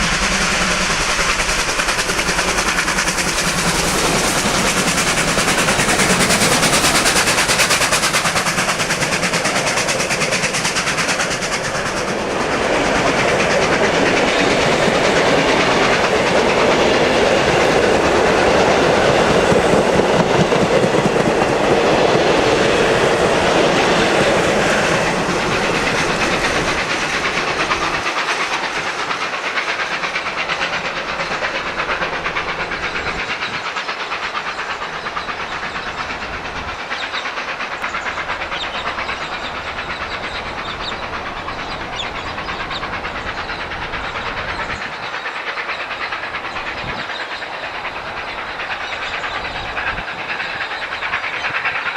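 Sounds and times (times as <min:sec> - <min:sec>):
steam train running: 0:00.0 - 0:51.9.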